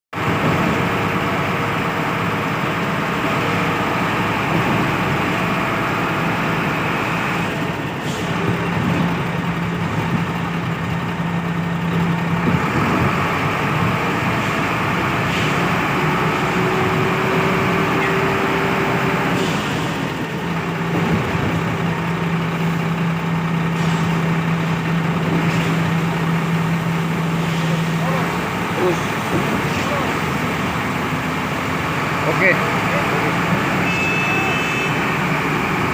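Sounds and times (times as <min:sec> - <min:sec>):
concrete pump truck engine: 0:00.2 - 0:35.9.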